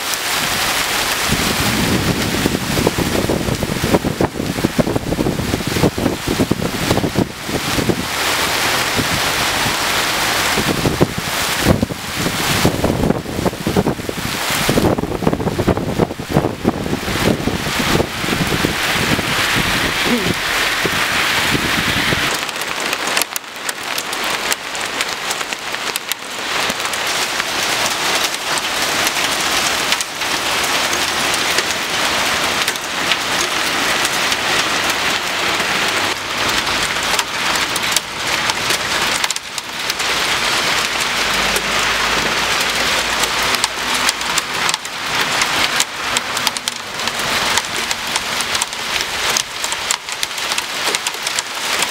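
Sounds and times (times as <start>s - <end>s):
hail and rain pelting pavement: 0.0s - 51.9s.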